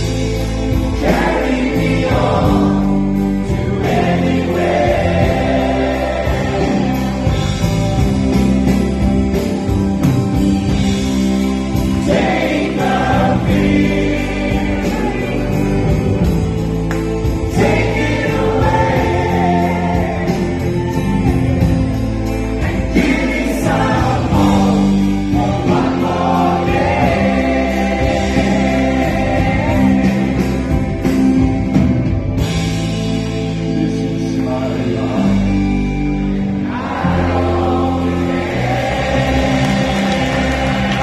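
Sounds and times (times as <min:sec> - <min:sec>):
voices singing together: 0:00.0 - 0:08.9, 0:11.4 - 0:31.8, 0:33.8 - 0:41.0
electric guitar: 0:00.0 - 0:41.0
keyboards: 0:00.0 - 0:41.0.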